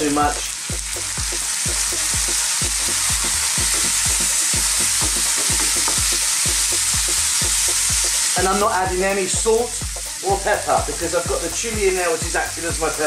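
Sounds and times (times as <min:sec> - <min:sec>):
background music with steady beat: 0:00.0 - 0:13.0
food sizzling in a wok: 0:00.0 - 0:13.0.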